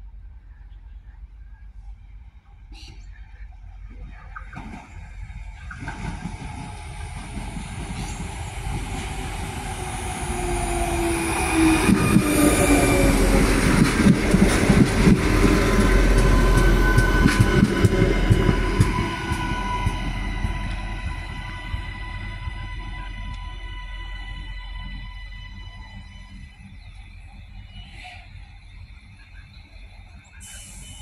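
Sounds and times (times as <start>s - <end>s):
diesel railcar engine rumble: 0.0s - 31.0s.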